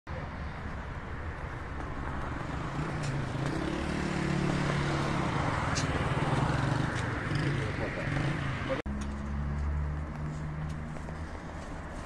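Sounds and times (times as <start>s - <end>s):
rumble of passing vehicles: 0.1s - 12.0s.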